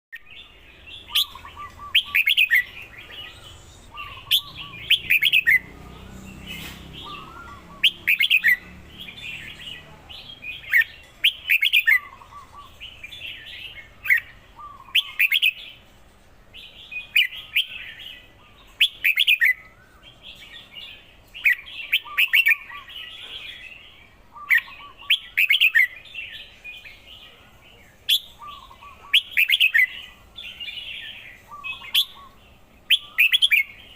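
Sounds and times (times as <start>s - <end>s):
bulbul singing: 0.2s - 15.9s, 16.6s - 27.2s, 28.0s - 33.9s
soft bird chatter: 0.2s - 33.9s.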